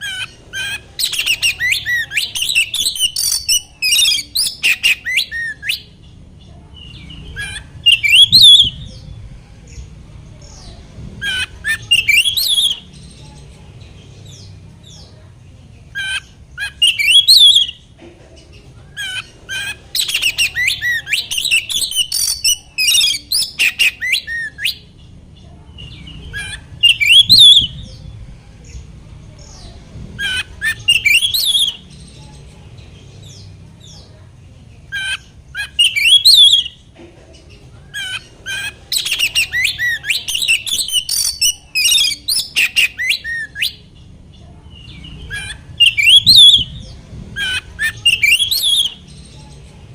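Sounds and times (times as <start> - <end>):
bird singing whistles and chatters: 0.0 - 15.2, 15.8 - 18.0, 18.6 - 34.2, 34.8 - 36.9, 37.6 - 49.9.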